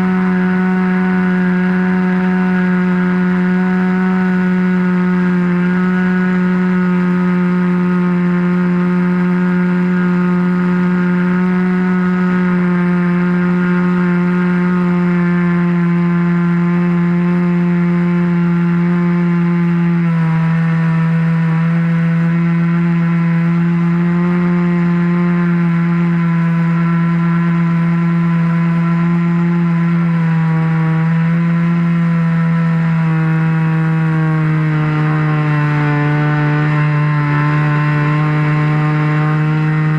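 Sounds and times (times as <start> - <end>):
model airplane engine and propeller: 0.0 - 39.9.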